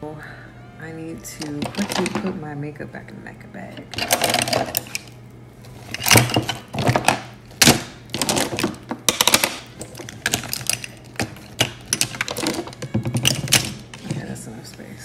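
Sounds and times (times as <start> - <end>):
makeup items clattering: 1.4 - 2.4, 3.8 - 14.8.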